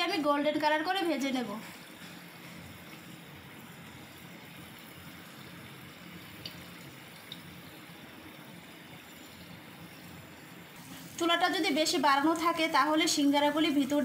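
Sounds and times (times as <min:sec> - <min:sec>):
oil bubbling and sizzling: 0:00.0 - 0:14.0.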